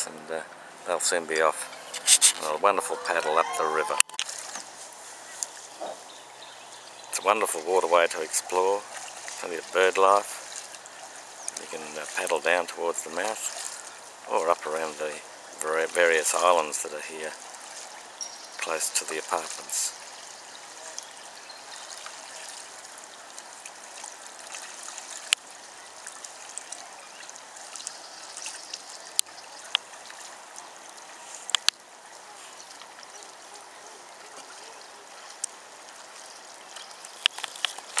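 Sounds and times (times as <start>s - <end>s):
water trickling and splashing: 0.0s - 38.0s.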